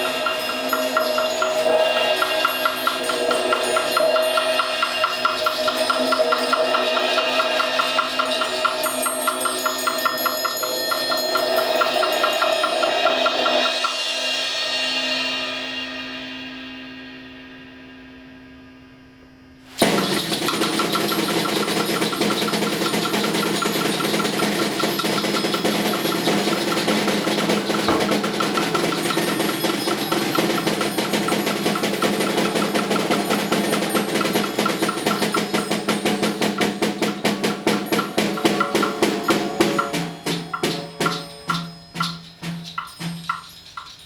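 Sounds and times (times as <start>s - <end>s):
hand percussion rattling: 0.0s - 14.2s, 19.8s - 44.0s.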